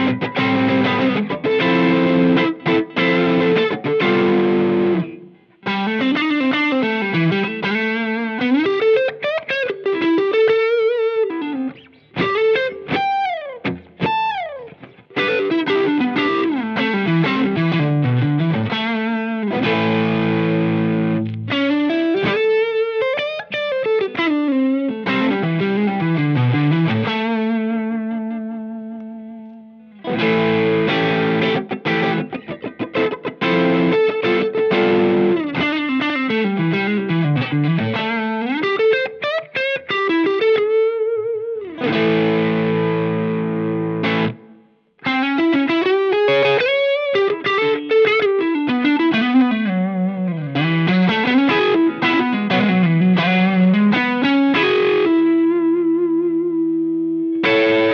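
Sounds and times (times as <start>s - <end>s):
overdriven electric guitar: 0.0s - 57.9s.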